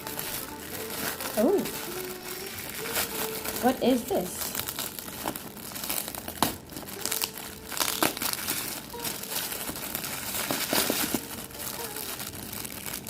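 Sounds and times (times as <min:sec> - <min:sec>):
wrapping paper crinkling: 0:00.0 - 0:13.0.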